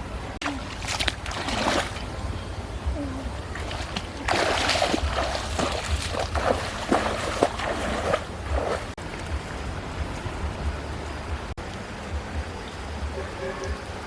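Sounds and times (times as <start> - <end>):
wind rumbling on microphone: 0.0 - 14.0
water splashing and sloshing: 0.2 - 14.0.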